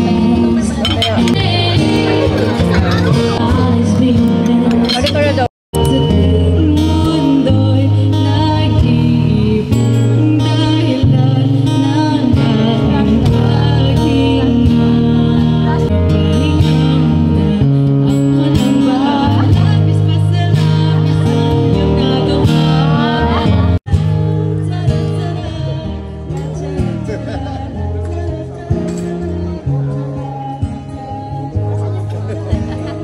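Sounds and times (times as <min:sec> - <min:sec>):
acoustic guitar: 0:00.0 - 0:33.0
woman singing: 0:00.0 - 0:33.0.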